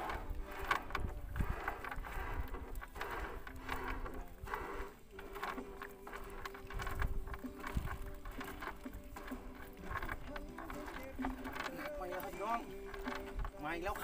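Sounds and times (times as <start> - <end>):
faint background music: 0.0 - 14.0
wind buffeting microphone: 0.0 - 14.0.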